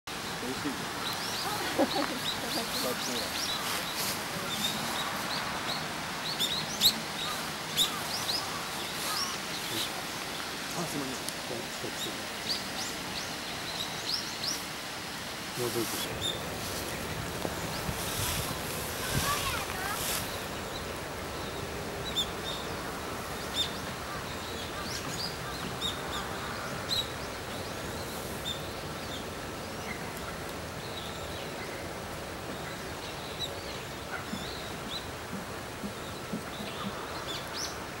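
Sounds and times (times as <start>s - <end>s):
outdoor background hiss: 0.1s - 38.0s.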